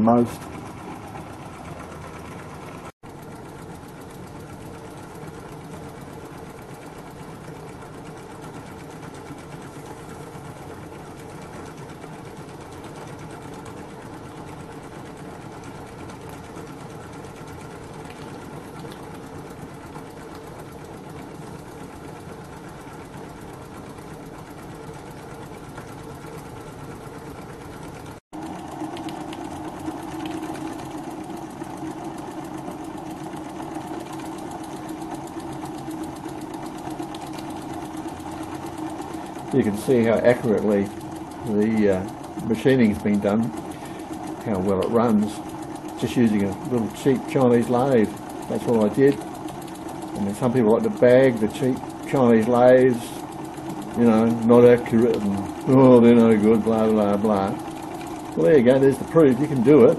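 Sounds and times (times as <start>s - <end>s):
model steam engine running: 0.0s - 59.9s.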